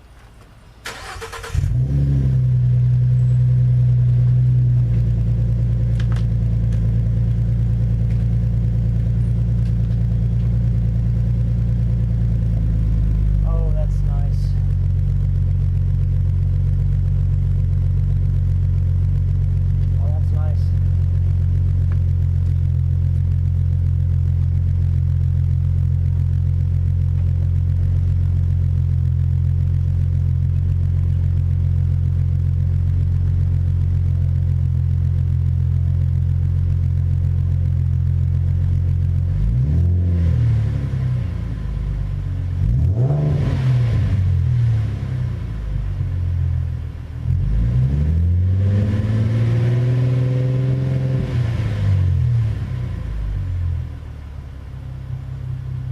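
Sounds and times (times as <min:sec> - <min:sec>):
car engine idling and revving: 0:00.0 - 0:55.9.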